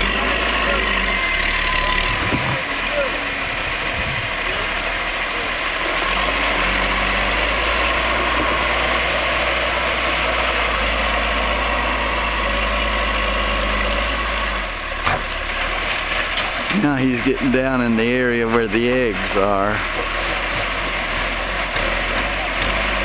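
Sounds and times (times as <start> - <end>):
backhoe engine running: 0.0 - 23.0
deep engine rumble: 0.0 - 23.0.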